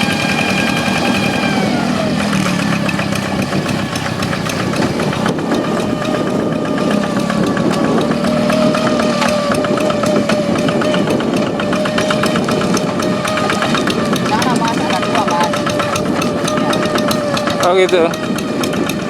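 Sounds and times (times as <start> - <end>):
diesel engine running with whine: 0.0 - 19.0.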